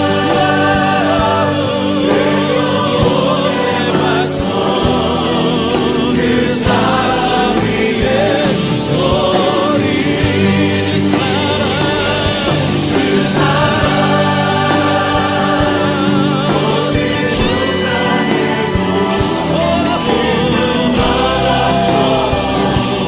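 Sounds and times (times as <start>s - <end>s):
choir singing with vibrato: 0.0s - 23.0s
instrumental backing music: 0.0s - 23.0s.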